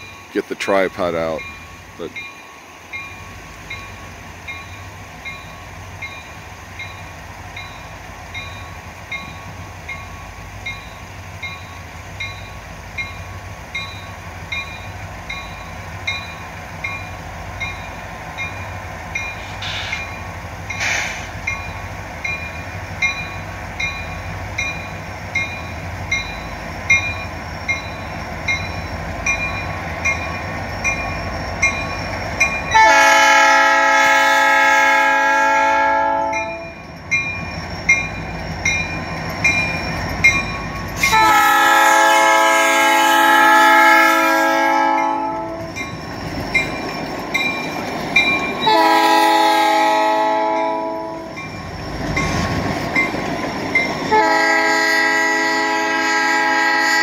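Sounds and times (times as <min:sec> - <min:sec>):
diesel locomotive rumble: 0:00.0 - 0:57.0.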